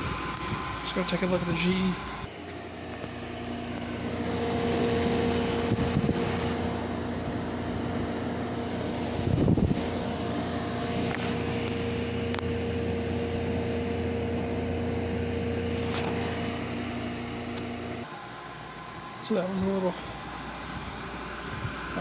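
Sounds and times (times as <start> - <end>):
air conditioner running: 0.0 - 22.0.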